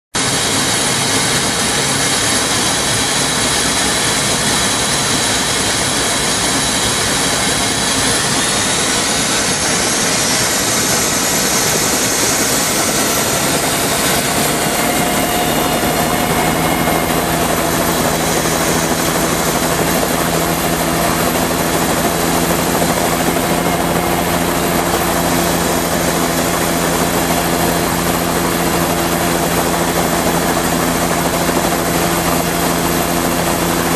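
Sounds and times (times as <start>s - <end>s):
helicopter engines and rotor: 0.2s - 33.9s.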